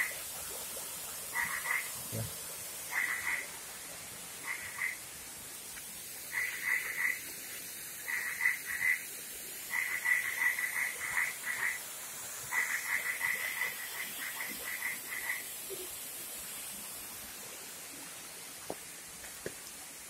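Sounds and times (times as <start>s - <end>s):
waterfall hissing: 0.0s - 20.0s.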